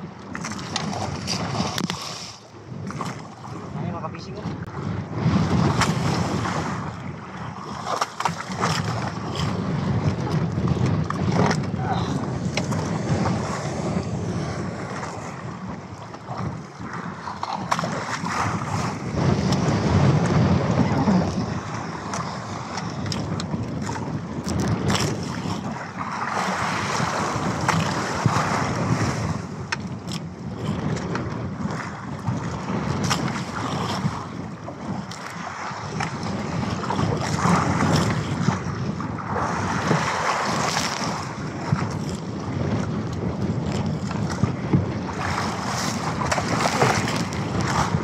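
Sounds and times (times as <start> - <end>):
waves splashing against hull: 0.0 - 48.0
wind buffeting microphone: 0.0 - 48.0.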